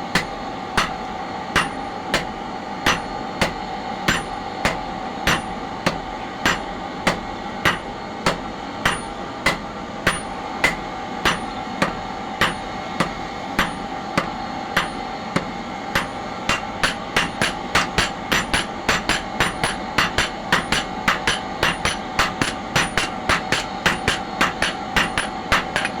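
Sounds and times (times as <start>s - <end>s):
steady hum: 0.0s - 26.0s
hammer striking metal on anvil: 0.1s - 26.0s.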